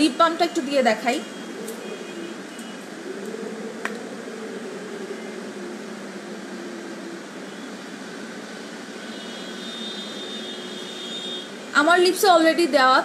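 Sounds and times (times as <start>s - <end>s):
room hum: 1.2s - 12.1s.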